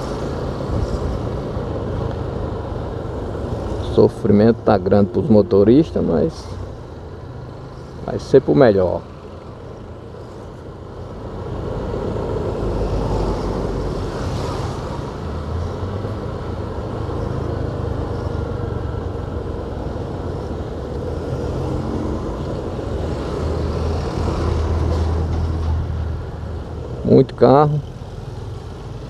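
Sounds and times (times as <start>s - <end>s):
traffic engines and road noise: 0.0s - 29.0s.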